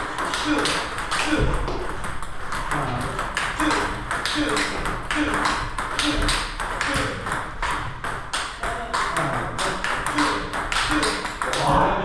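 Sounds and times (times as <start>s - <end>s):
table tennis ball hitting bats: 0.0s - 11.9s
ball bouncing on table: 0.2s - 11.8s.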